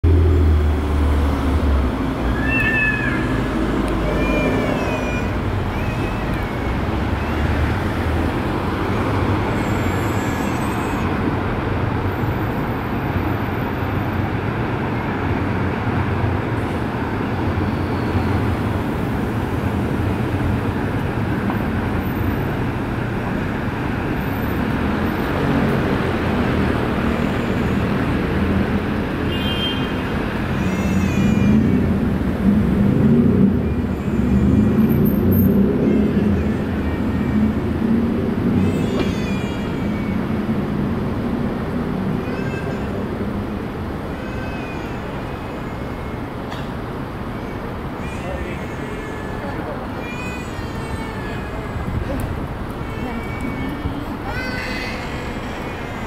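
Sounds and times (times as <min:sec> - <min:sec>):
city traffic rumble: 0:00.0 - 0:56.0.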